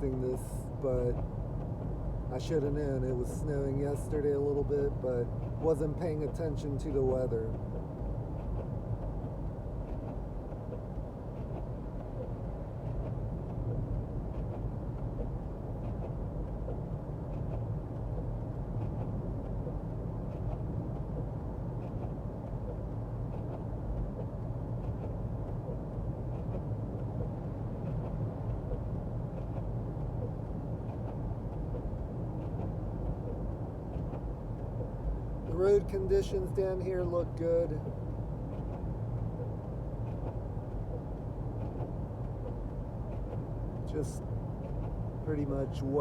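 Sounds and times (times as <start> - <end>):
car engine and tyres on wet road: 0.0 - 46.0
faint soft ticks: 0.0 - 46.0.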